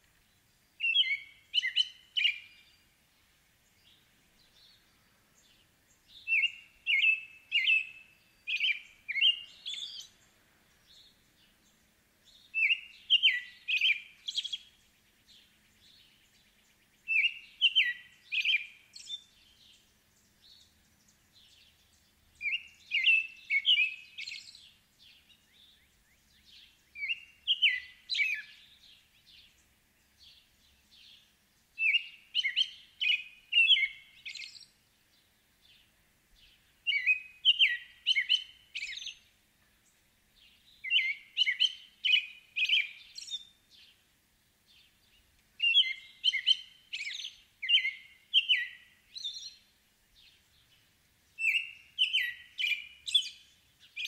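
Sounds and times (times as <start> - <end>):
robin singing whistled phrases: 0.8 - 2.9, 3.6 - 34.8, 35.6 - 39.3, 40.4 - 44.0, 44.7 - 54.0.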